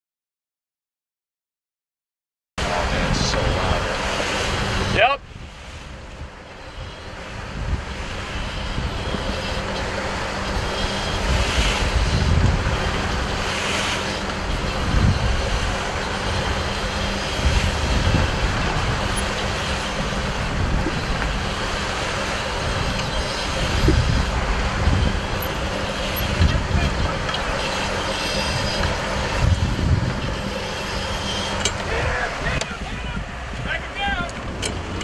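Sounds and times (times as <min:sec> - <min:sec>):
boat engine humming: 0:02.6 - 0:35.0
wind rumbling on microphone: 0:02.6 - 0:35.0.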